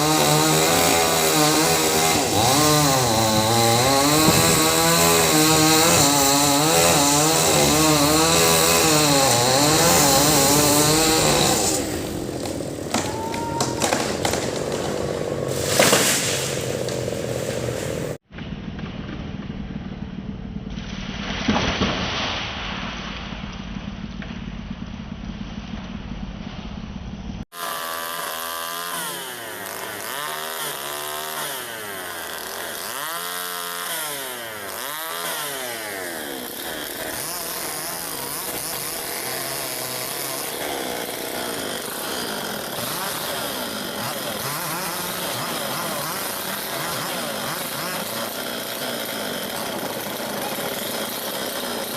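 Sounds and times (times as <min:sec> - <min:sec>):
chainsaw engine running and revving: 0:00.0 - 0:18.2, 0:27.5 - 0:51.9.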